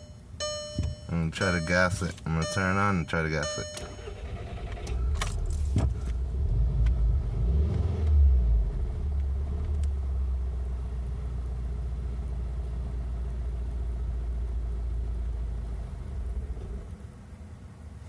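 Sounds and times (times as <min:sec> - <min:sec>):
car engine starting and idling: 0:00.0 - 0:18.0.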